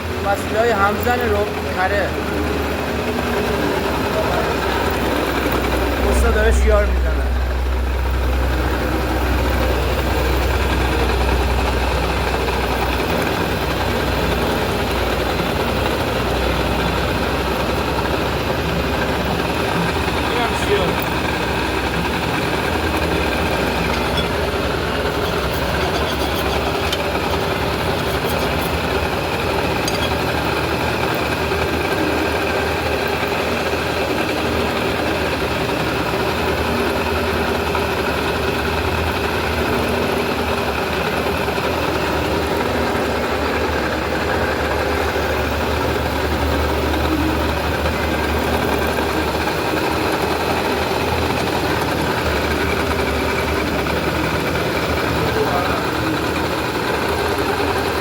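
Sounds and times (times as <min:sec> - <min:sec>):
machine tool humming: 0:00.0 - 0:58.0.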